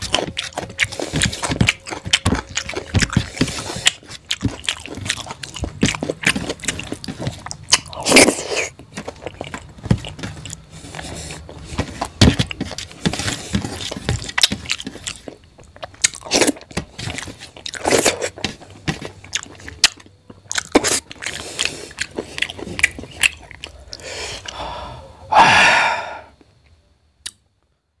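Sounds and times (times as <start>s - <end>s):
man chewing with mouth smacks: 0.0s - 24.6s.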